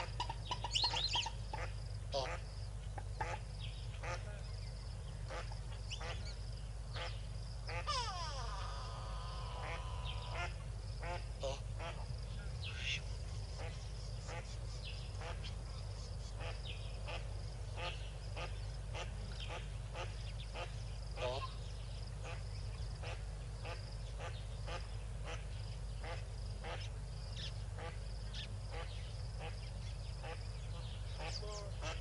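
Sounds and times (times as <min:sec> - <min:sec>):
ducks quacking: 0:00.0 - 0:04.4, 0:05.2 - 0:15.7, 0:16.3 - 0:21.6, 0:22.2 - 0:32.0.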